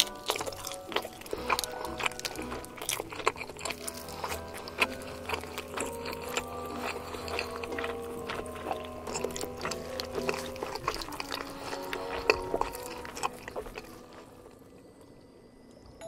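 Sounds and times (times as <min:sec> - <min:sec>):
chewing and wet mouth sounds: 0:00.0 - 0:14.8
soft background music: 0:00.0 - 0:16.0.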